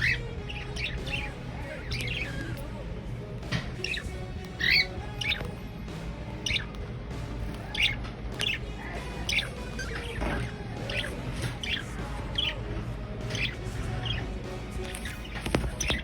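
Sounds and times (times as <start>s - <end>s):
cockatiels chirping: 0.0s - 2.8s, 3.4s - 16.0s.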